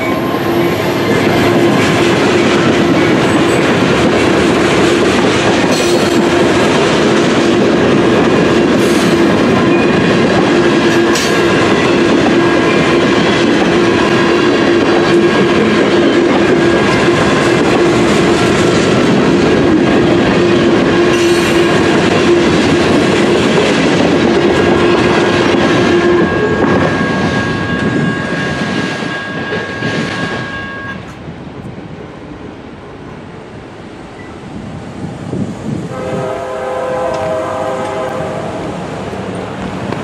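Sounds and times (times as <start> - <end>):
train wheels clattering on rails: 0.0 - 31.8, 35.0 - 40.0.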